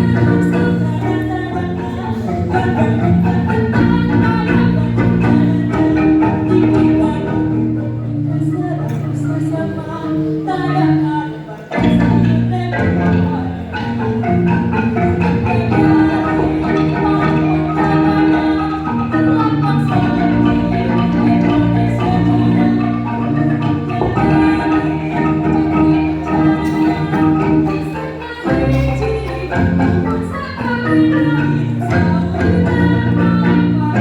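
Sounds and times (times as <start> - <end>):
wooden xylophones struck with mallets: 0.0 - 34.0.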